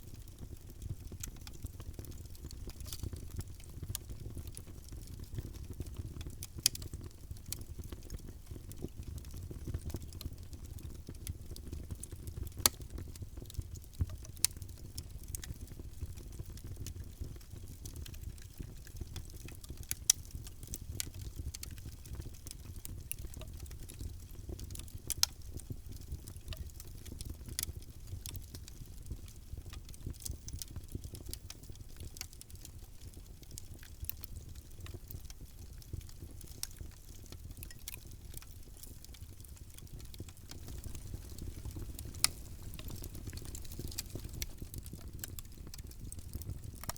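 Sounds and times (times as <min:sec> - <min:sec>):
wood fire crackling: 0:00.1 - 0:46.9.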